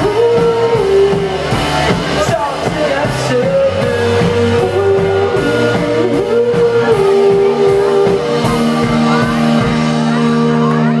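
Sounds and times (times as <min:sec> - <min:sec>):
rock band playing electric guitars: 0:00.0 - 0:11.0
sliding lead guitar note: 0:00.0 - 0:11.0.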